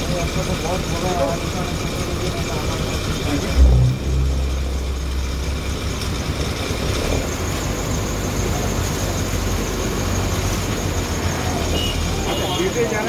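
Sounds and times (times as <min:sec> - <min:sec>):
street noise: 0:00.0 - 0:13.0
vehicle engine humming: 0:00.0 - 0:13.0.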